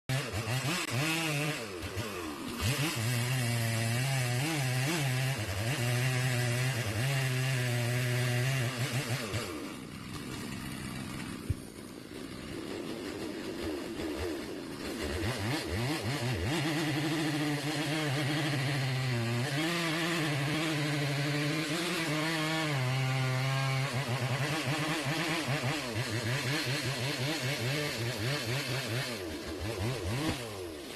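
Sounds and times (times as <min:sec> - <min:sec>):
chainsaw running: 0:00.1 - 0:30.9.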